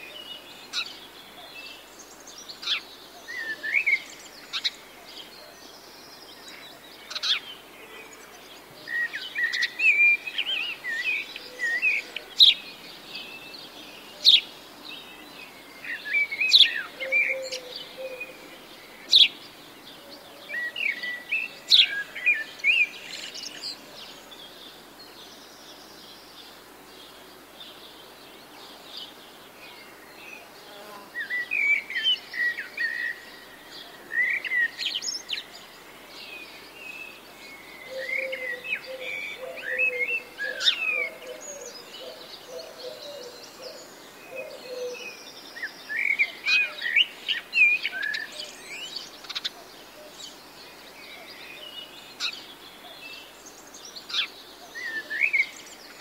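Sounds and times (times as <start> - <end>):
faint outdoor hiss: 0.0 - 56.0
small birds chirping: 0.0 - 56.0.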